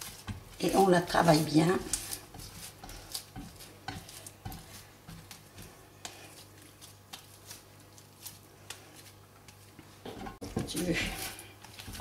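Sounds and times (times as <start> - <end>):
hands kneading sticky dough: 0.0 - 12.0.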